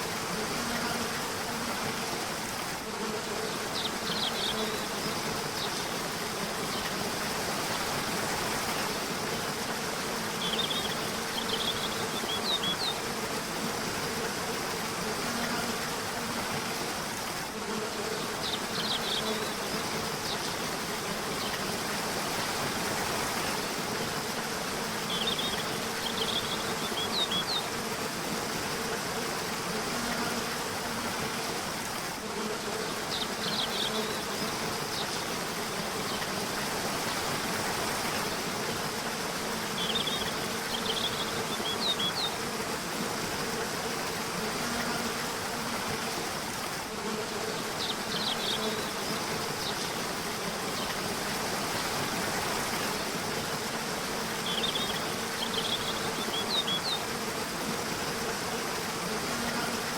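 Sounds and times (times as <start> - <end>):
river water flowing: 0.0 - 29.7, 30.4 - 59.9.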